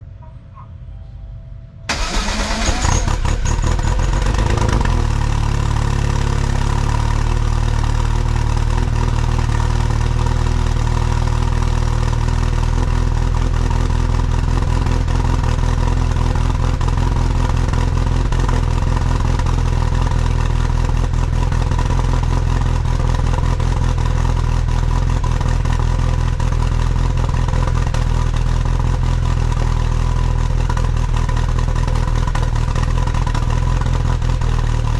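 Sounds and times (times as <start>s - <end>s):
car engine starting and idling: 1.9s - 34.9s.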